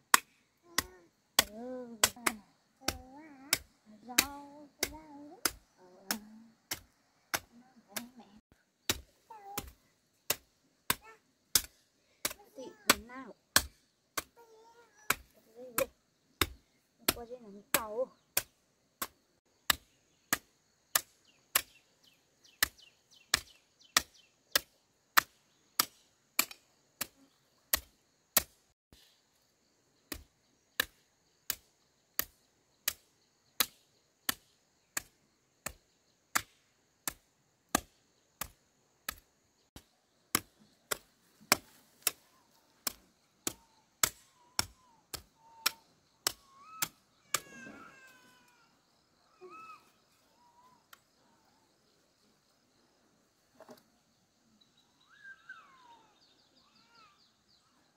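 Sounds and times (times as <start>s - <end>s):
garden hoe striking ground: 0.0s - 29.2s, 30.0s - 48.1s.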